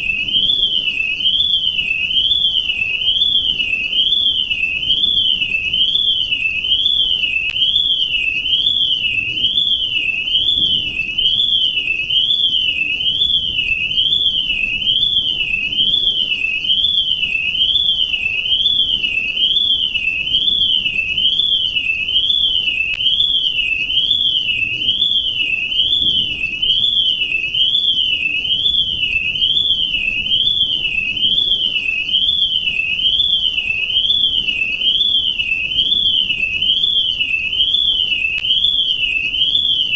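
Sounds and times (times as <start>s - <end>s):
electronic alarm tone warbling: 0.0s - 39.9s.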